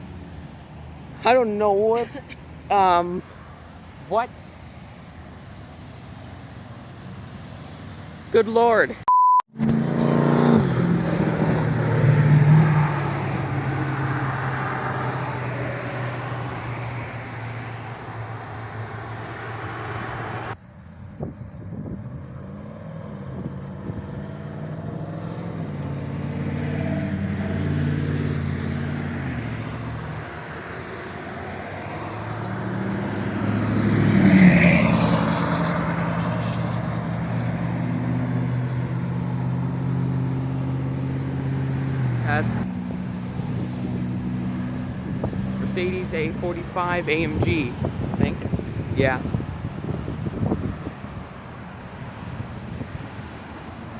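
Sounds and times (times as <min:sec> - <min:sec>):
car engines in slow traffic: 0:09.6 - 0:53.9
vehicle passing close: 0:09.6 - 0:53.9.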